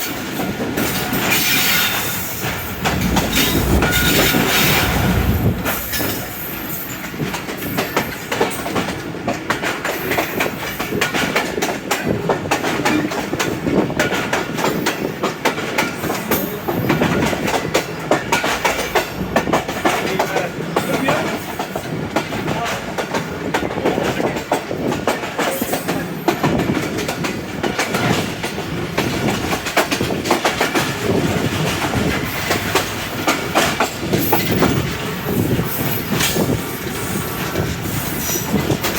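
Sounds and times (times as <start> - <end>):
train wheels clattering over rails: 0.0 - 38.9.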